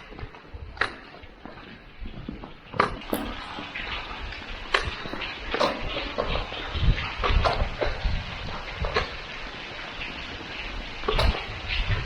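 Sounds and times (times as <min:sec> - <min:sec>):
water drops splashing: 0:00.0 - 0:12.0.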